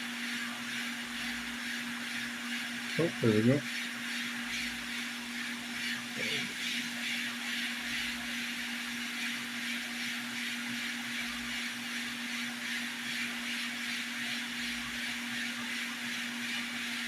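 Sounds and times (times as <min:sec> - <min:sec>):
hot-air station fan humming: 0:00.0 - 0:17.0.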